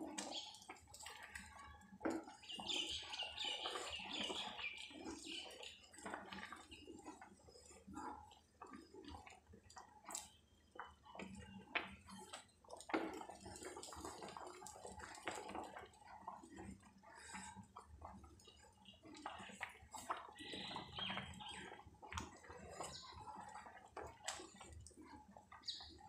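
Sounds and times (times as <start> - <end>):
spatula stirring thick porridge: 0.0 - 26.0.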